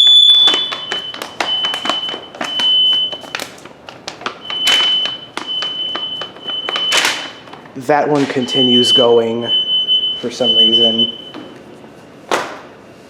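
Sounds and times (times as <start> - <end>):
smoke alarm beeping: 0.0 - 11.6.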